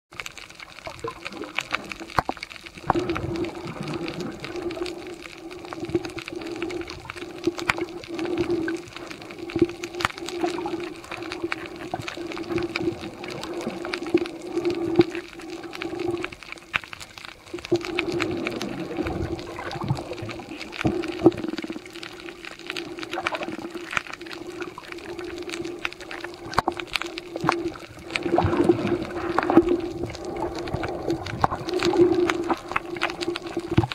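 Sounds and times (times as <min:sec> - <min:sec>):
low underwater hum: 0:00.1 - 0:33.9
sharp clicks and crackles: 0:00.1 - 0:33.9.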